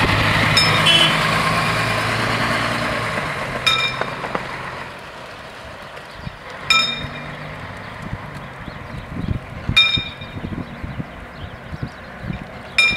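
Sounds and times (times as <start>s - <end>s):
bus engine humming: 0.0s - 12.9s.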